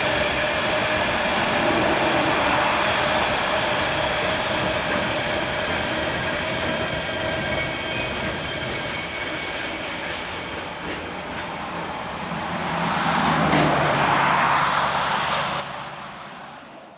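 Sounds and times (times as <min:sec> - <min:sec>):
freight train rumbling on track: 0:00.0 - 0:16.9.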